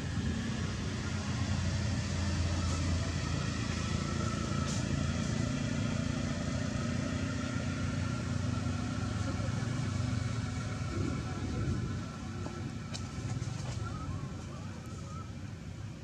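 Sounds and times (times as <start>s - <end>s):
vehicle engine running steadily: 0.0s - 16.0s.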